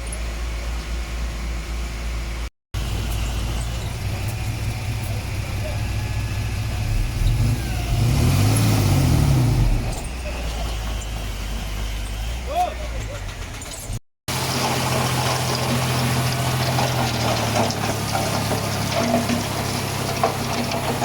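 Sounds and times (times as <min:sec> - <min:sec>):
heavy diesel engine revving: 0:02.8 - 0:21.0.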